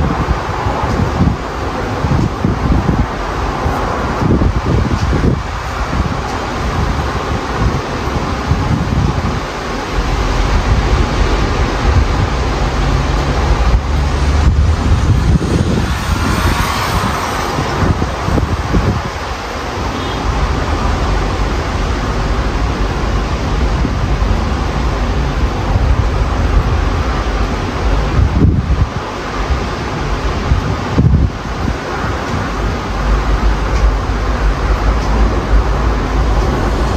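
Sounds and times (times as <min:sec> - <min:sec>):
gusty wind buffeting microphone: 0:00.0 - 0:36.9.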